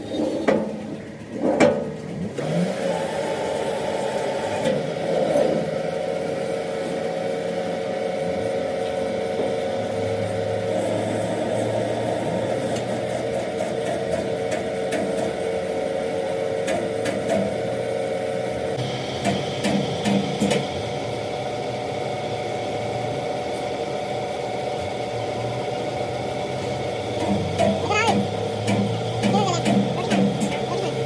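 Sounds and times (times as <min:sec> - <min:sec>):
machine motor running: 0:02.2 - 0:31.0.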